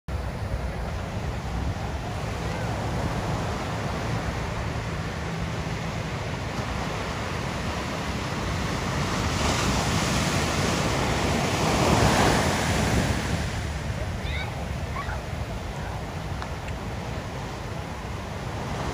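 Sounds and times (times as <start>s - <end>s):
small ocean waves breaking: 0.1s - 18.9s
wind rumbling on microphone: 0.1s - 18.9s.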